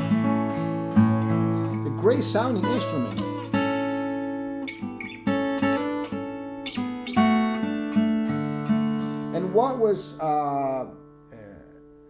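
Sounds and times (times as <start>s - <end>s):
acoustic guitar chords and notes: 0.0s - 12.0s.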